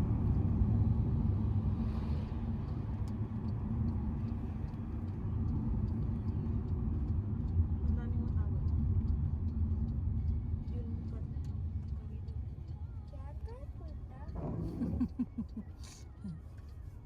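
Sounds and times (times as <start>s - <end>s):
road noise: 0.0s - 17.0s
vehicle engine rumble: 0.0s - 17.0s
faint regular ticking: 0.3s - 17.0s.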